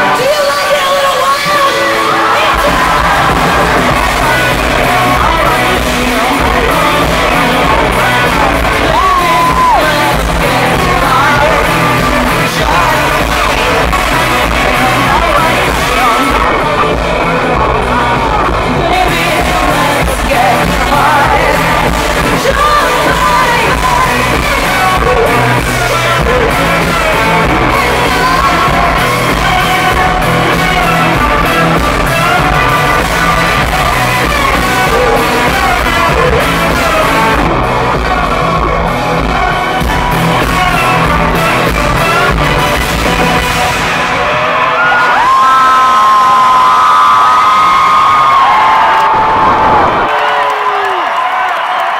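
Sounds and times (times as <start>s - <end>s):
person singing: 0.0s - 46.6s
fans yelling: 0.0s - 51.9s
live rock band over pa: 0.0s - 51.9s.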